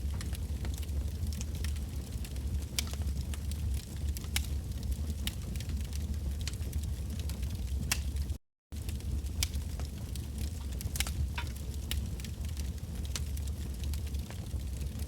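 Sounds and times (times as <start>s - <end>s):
bonfire flames rumbling: 0.0s - 15.0s
logs crackling and popping: 0.0s - 15.0s.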